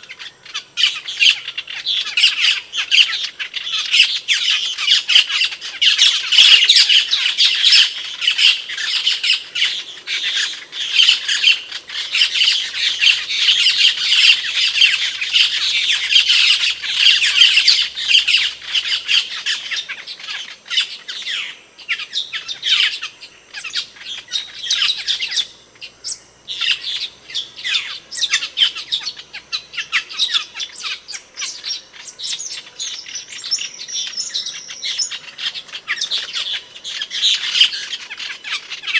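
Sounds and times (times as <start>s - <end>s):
birds squawking chatter: 0.0s - 38.9s.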